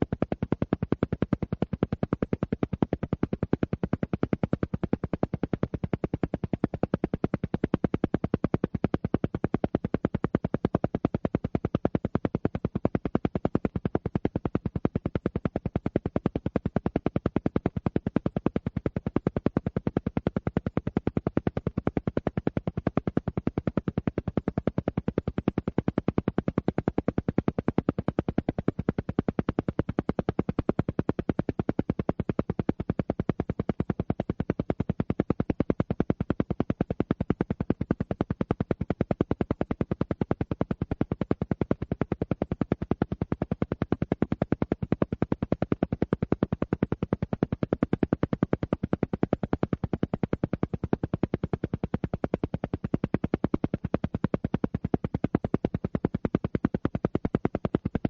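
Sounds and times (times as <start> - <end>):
rapid pulses: 0.0 - 58.0.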